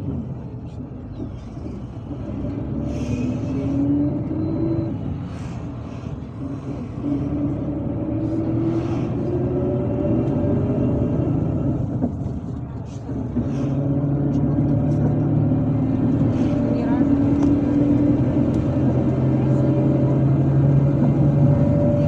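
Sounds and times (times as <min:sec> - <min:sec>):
bus diesel engine accelerating: 0:00.0 - 0:22.0.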